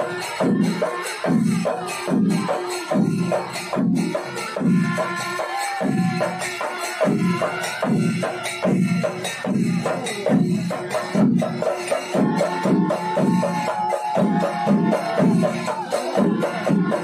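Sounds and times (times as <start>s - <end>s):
drums and cymbals rhythm: 0.0s - 17.0s.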